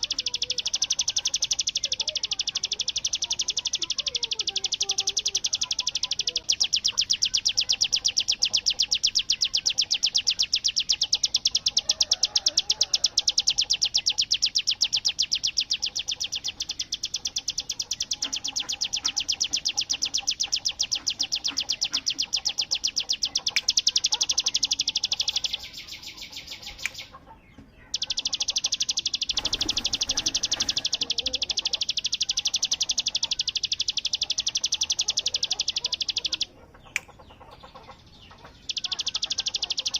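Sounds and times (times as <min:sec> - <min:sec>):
bird singing rapid trill: 0:00.0 - 0:39.9.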